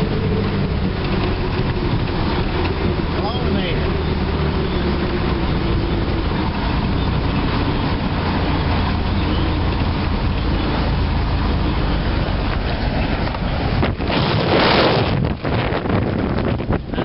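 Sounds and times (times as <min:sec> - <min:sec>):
pickup truck engine running: 0:00.0 - 0:17.0
tyre and road noise: 0:00.0 - 0:17.0.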